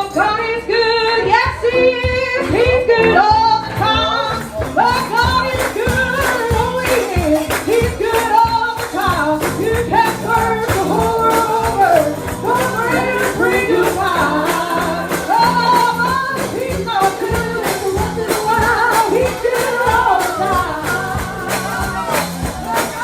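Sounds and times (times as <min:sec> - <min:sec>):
band accompaniment: 0:00.0 - 0:23.0
gospel singing: 0:00.0 - 0:23.0
tambourine: 0:04.4 - 0:23.0.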